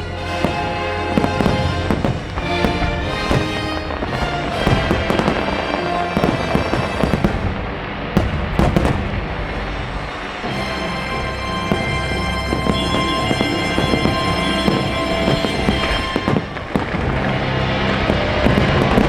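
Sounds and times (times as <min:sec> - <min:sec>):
fireworks bursting and crackling: 0:00.4 - 0:19.0.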